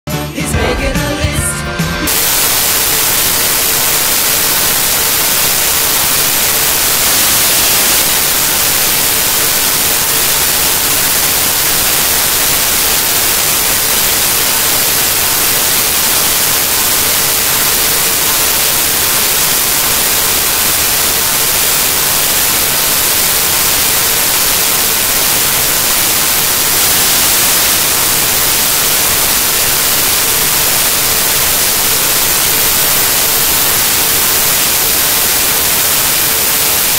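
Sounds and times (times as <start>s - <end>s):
loud static hiss: 0.3s - 36.9s.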